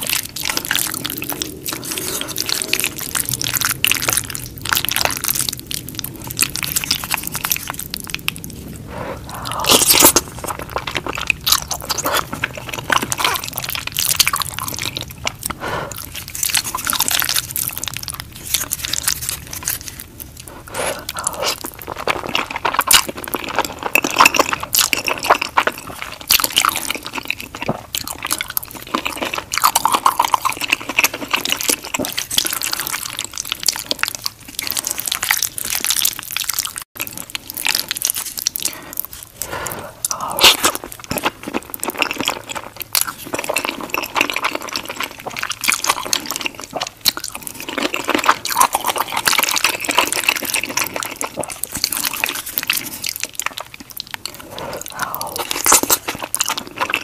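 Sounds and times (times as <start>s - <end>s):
wet chewing and slurping: 0.0s - 57.0s.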